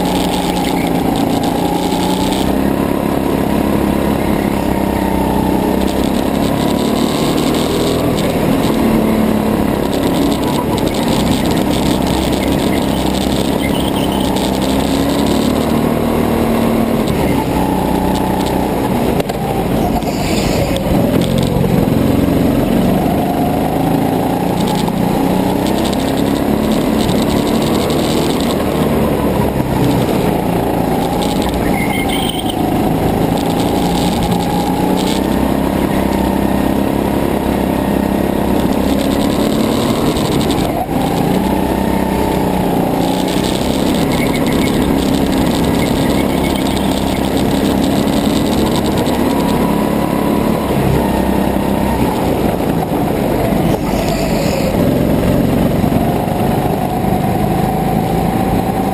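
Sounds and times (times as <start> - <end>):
vibration noise: 0.0 - 51.1
go-kart engine running: 0.0 - 58.9.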